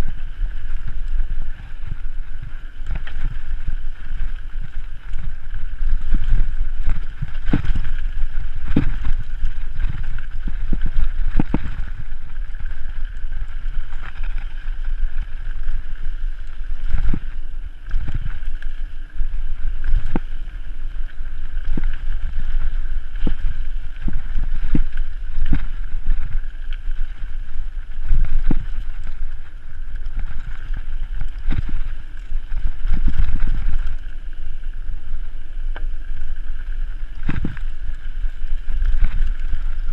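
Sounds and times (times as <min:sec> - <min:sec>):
bike knocking and rattling: 0:00.0 - 0:35.0
wind rushing over microphone: 0:00.0 - 0:39.9.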